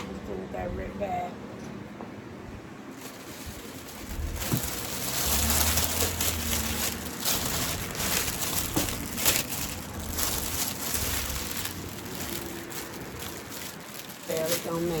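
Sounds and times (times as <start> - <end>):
plastic bag crinkling: 2.9 - 15.0.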